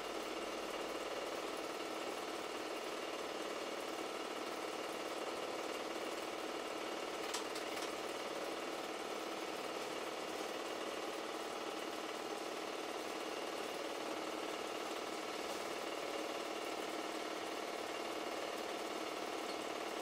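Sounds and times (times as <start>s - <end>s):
film projector clattering: 0.2s - 20.0s.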